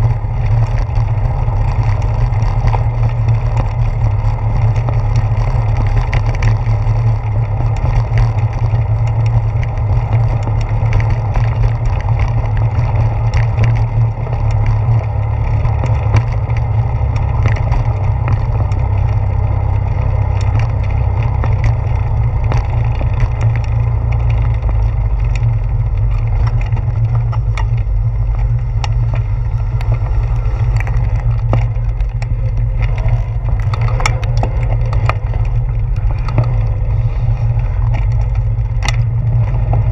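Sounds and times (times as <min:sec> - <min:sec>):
bicycle tyres knocking on boardwalk: 0:00.0 - 0:39.9
low rumble of riding: 0:00.0 - 0:39.9.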